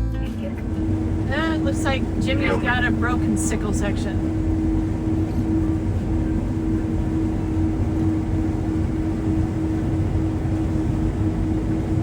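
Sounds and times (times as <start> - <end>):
machinery engine rumbling: 0.0 - 12.0.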